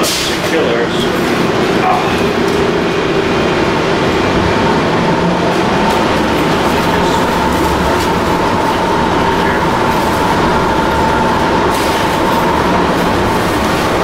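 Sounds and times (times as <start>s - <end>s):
steady high whine: 0.0s - 14.0s
tram rumble and hiss: 0.0s - 14.0s.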